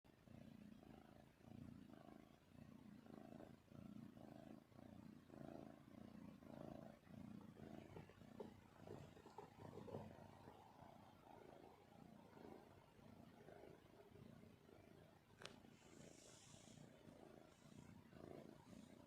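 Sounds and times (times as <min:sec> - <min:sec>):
kitten purring: 0:00.1 - 0:19.0.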